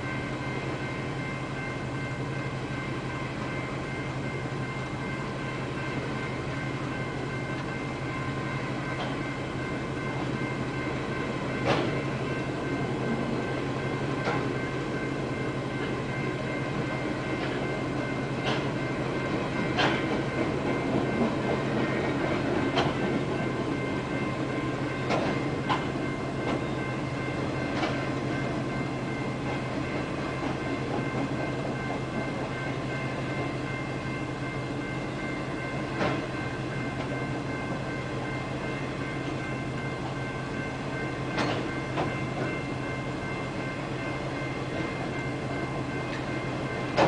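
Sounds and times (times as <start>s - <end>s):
freight train rumbling past: 0.0s - 47.0s
train clanks: 0.0s - 47.0s.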